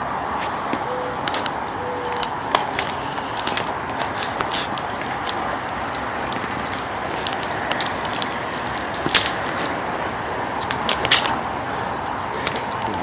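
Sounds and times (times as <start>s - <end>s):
sharp snaps: 0.4s - 9.8s, 10.4s - 11.4s.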